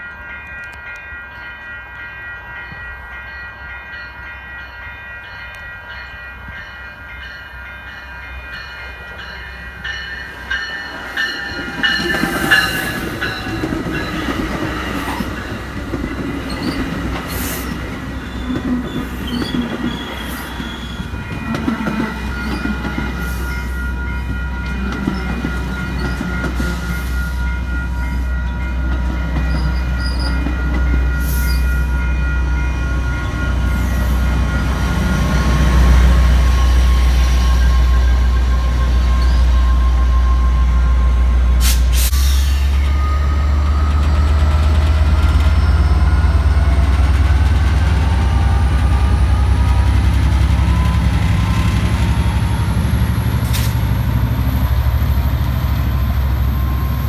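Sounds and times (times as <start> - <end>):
diesel locomotive engine rumbling: 0.0 - 57.0
train wheel squeal: 8.6 - 15.4, 16.4 - 57.0.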